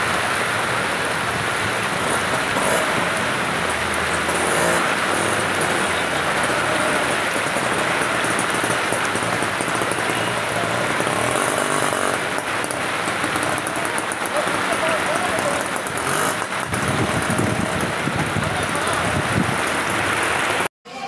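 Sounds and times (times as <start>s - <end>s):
heavy rain pouring: 0.0s - 20.7s
vehicles driving through water: 0.0s - 20.7s.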